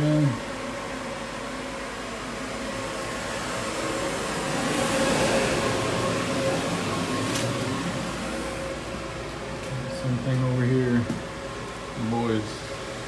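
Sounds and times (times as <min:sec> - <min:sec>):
machine hum with rush: 0:00.0 - 0:13.0.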